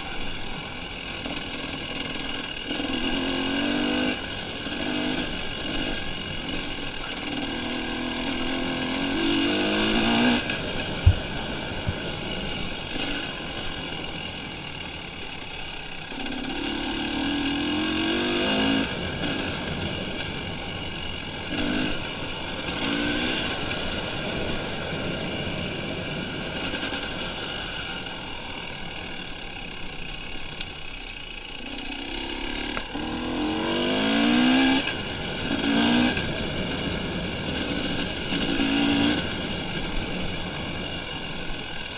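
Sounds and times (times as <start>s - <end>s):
wind and road noise: 0.0s - 41.9s
dirt bike engine revving: 0.1s - 30.2s, 31.4s - 41.8s.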